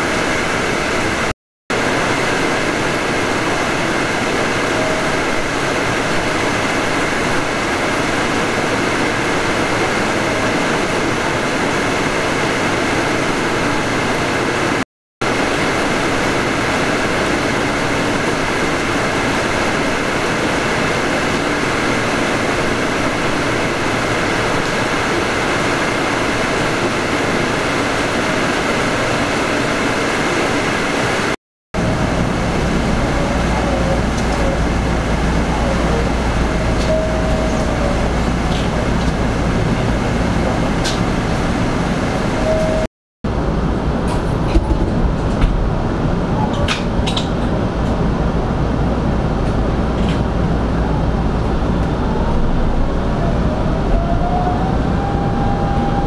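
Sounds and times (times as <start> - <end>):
electric train rushing: 0.0 - 56.0.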